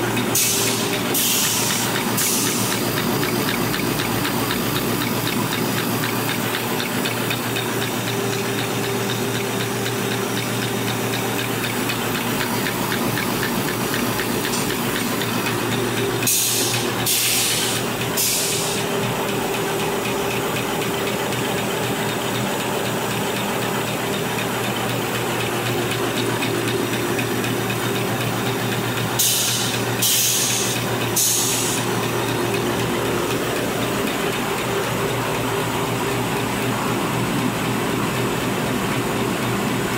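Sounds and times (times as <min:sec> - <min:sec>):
machine hum and clatter: 0:00.0 - 0:39.9.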